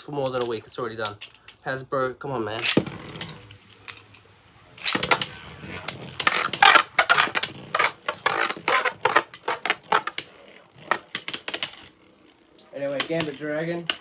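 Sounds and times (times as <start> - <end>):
plastic spinning tops clattering: 0.0 - 1.6, 2.6 - 14.0.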